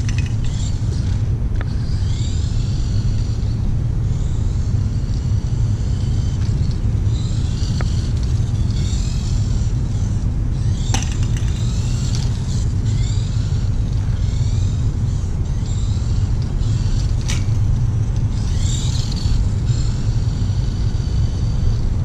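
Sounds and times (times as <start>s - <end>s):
sharp clatter: 0.0s - 3.0s, 5.9s - 21.2s
electric motor and gears whining: 0.0s - 22.0s
steady low rumble: 0.0s - 22.0s.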